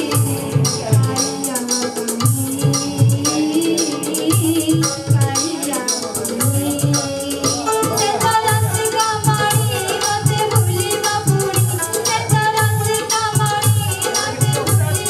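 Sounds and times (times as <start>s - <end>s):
light percussion rattle: 0.0s - 15.0s
low drum beats: 0.0s - 15.0s
woman singing into microphone: 0.0s - 15.0s.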